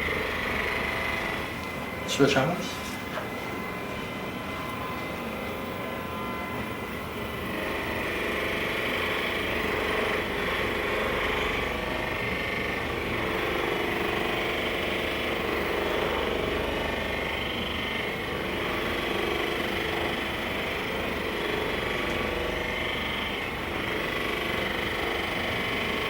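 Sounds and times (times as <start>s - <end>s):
massage gun buzzing: 0.0s - 26.0s.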